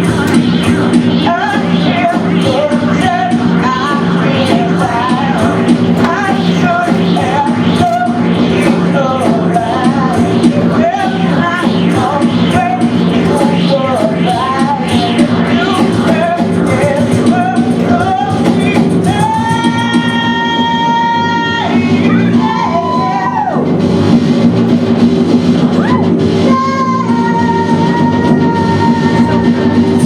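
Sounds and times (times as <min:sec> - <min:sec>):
steady drum beat: 0:00.0 - 0:22.4, 0:23.6 - 0:30.0.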